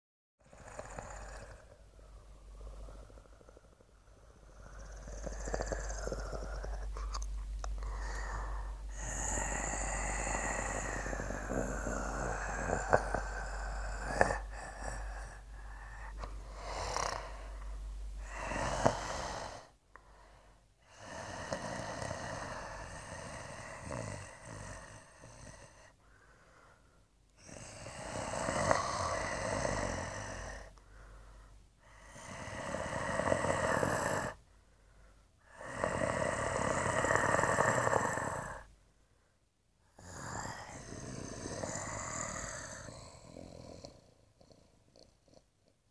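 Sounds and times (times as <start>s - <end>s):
snore-like noisy breathing: 0.4s - 38.8s, 39.8s - 45.9s.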